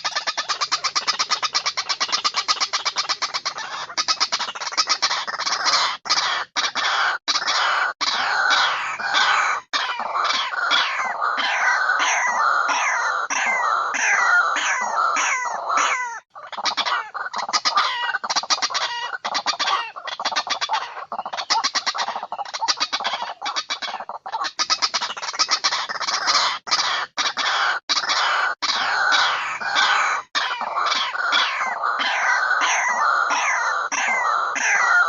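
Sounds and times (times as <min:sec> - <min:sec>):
birds clucking and squawking: 0:00.0 - 0:35.0.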